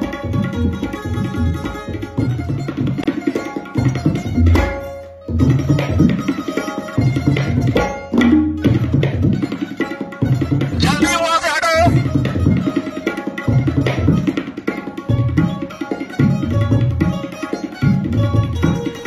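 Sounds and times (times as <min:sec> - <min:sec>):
fast hand-drum rhythm: 0:00.0 - 0:19.0.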